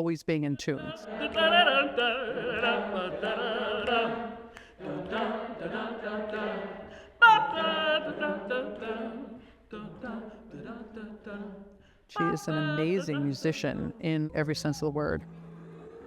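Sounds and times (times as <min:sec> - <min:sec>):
group singing a cappella: 0:00.6 - 0:14.7.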